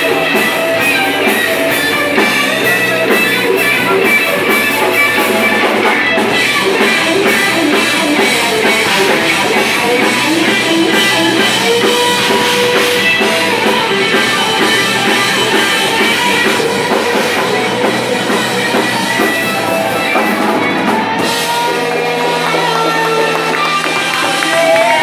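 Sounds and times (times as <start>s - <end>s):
distorted electric guitars: 0.0s - 25.0s
drum kit: 0.0s - 25.0s.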